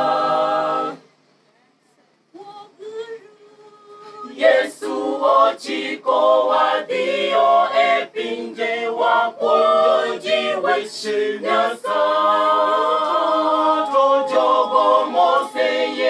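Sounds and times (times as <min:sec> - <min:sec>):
mixed choir singing a hymn: 0:00.0 - 0:01.0, 0:04.2 - 0:16.0.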